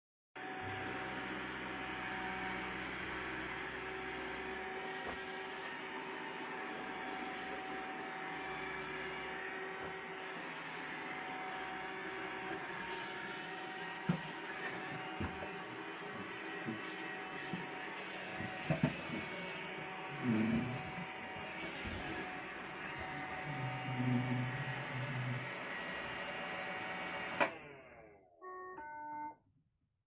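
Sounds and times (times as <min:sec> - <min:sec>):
robot vacuum whirring: 0:00.5 - 0:28.1.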